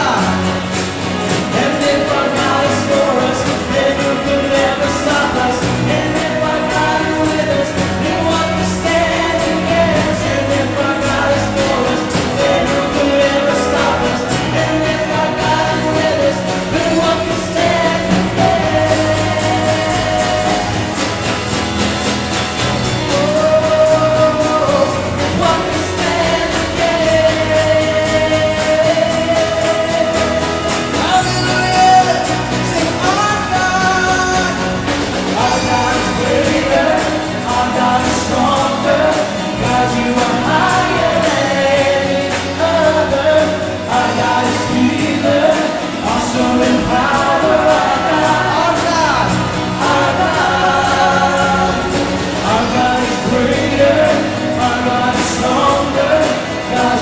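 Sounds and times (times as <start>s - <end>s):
women and man singing: 0.0s - 21.6s, 22.6s - 57.0s
drums: 0.0s - 57.0s
guitars: 0.0s - 57.0s.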